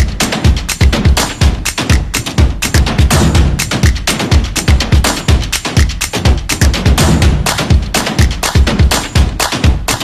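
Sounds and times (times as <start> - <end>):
upbeat music with heavy drum beat: 0.0 - 10.0.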